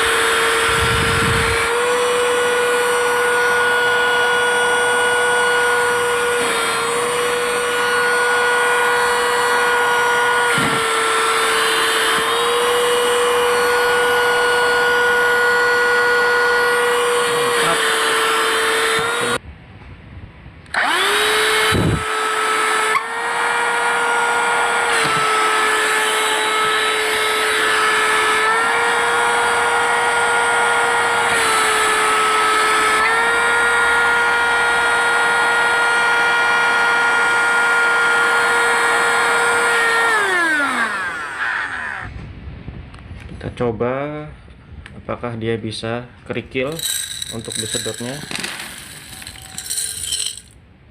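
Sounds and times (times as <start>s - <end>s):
handheld vacuum cleaner motor whining: 0.0s - 19.4s, 20.7s - 42.1s, 46.7s - 50.5s.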